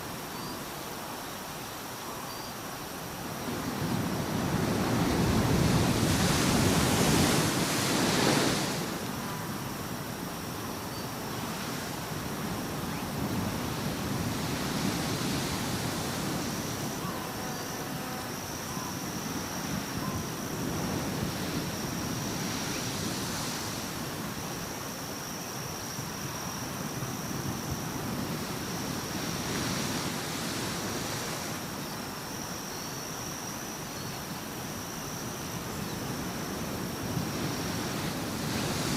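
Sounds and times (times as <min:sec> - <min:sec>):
waves washing in: 0:03.0 - 0:32.4, 0:34.4 - 0:38.9.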